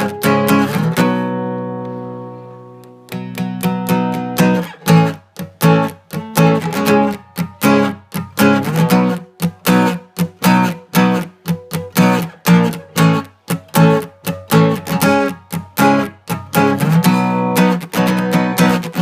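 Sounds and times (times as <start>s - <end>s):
guitar strumming: 0.0s - 19.0s.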